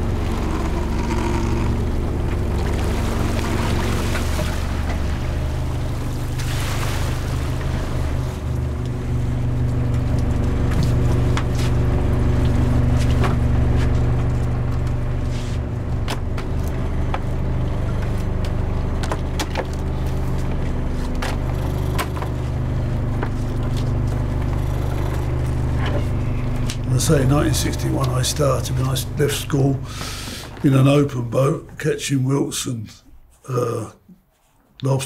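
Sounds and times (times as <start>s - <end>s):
boat engine droning: 0.0s - 33.8s.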